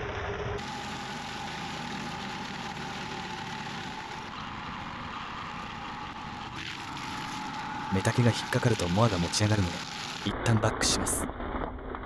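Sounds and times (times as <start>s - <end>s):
mower engine running: 0.0s - 11.0s.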